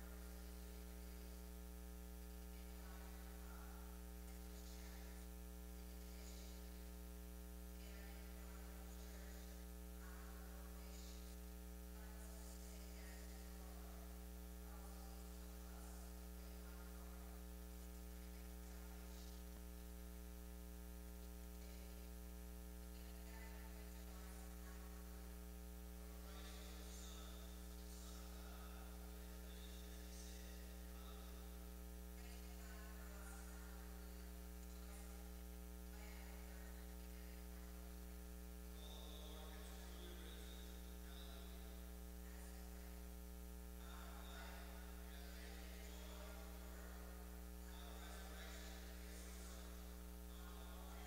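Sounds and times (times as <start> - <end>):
low electrical mains hum: 0.0 - 51.0.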